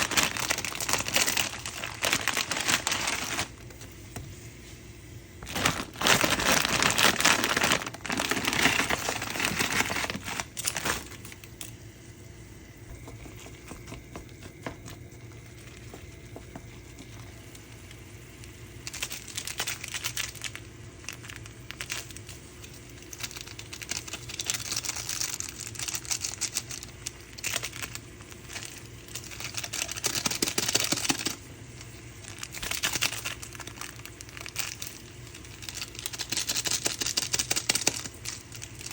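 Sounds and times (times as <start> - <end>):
packaging crinkling: 0.0 - 3.9, 5.4 - 11.8, 16.9 - 38.9.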